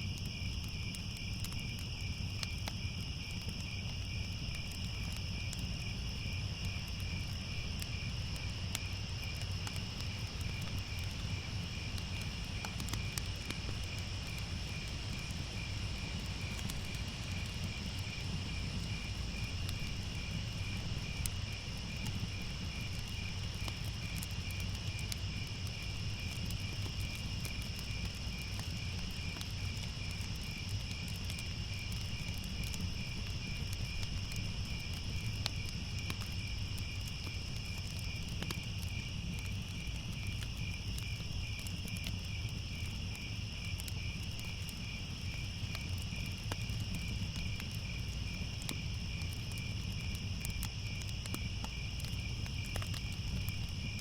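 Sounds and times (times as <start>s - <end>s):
crickets chirping: 0.0s - 54.0s
fire crackling: 0.0s - 54.0s.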